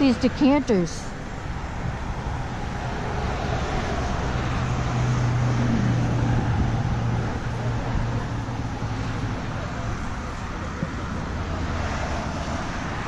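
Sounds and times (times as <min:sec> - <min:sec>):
outdoor background noise: 0:00.0 - 0:13.0
passing vehicle engine hum: 0:00.0 - 0:13.0.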